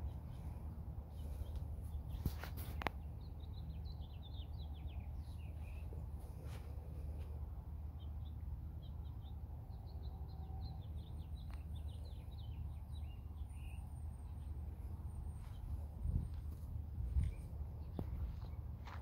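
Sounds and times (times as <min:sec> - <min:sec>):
songbirds chirping: 0:00.0 - 0:19.0
steady low rumble: 0:00.0 - 0:19.0.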